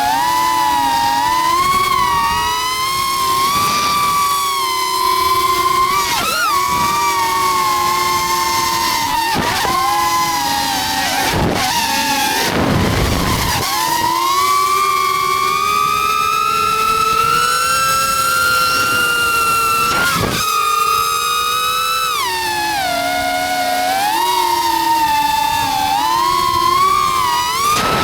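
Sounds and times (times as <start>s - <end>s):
drone motors and propellers whining: 0.0s - 28.0s.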